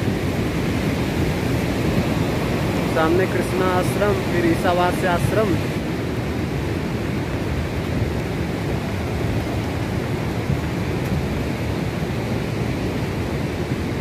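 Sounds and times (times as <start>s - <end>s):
river rushing in flood: 0.0s - 14.0s.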